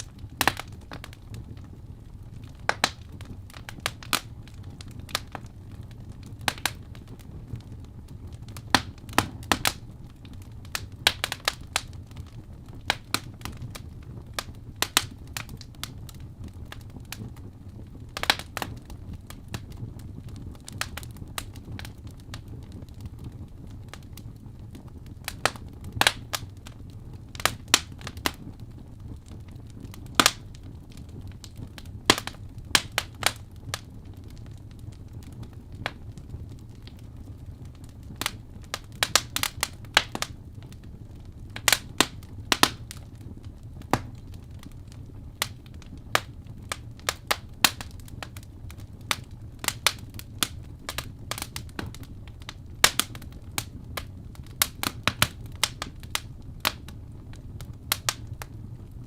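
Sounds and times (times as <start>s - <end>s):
fire rumbling: 0.0s - 59.0s
logs crackling and popping: 0.0s - 59.0s.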